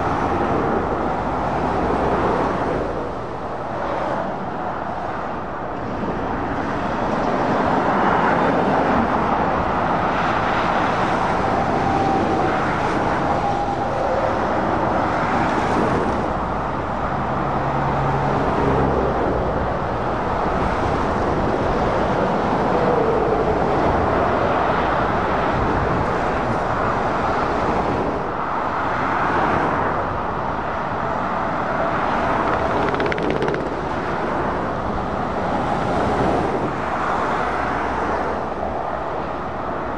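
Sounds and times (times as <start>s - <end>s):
lorries and cars passing: 0.0s - 39.9s.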